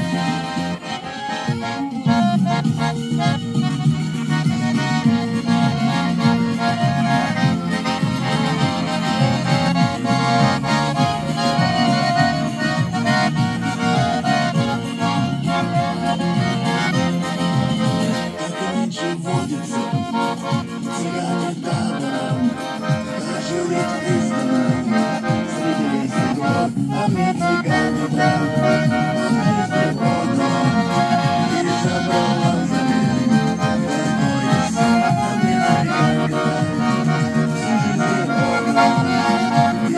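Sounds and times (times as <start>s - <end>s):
button accordion playing: 0.0s - 39.9s.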